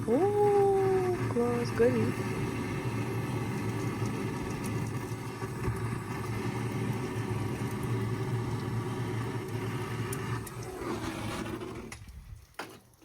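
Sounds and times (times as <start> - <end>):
motor hum: 0.0 - 12.3.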